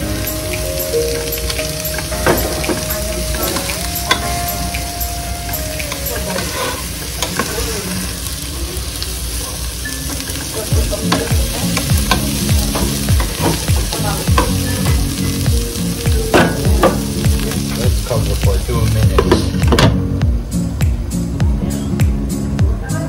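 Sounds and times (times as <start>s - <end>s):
vegetables sizzling in a pot: 0.0s - 23.0s.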